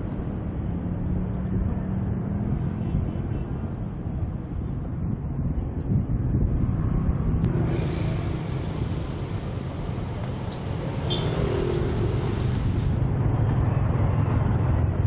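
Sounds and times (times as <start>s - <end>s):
car and motorbike traffic passing: 0.0s - 15.0s
wind rumbling on microphone: 0.0s - 15.0s.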